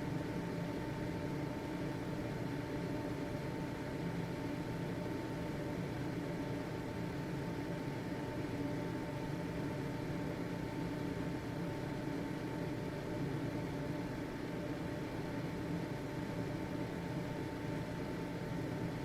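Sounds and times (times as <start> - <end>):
ventilation fan running: 0.0 - 19.0.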